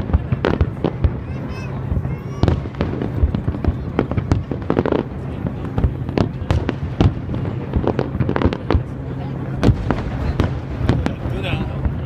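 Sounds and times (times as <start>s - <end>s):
fireworks bangs and cracks: 0.0s - 12.0s
low rumble: 0.0s - 12.0s.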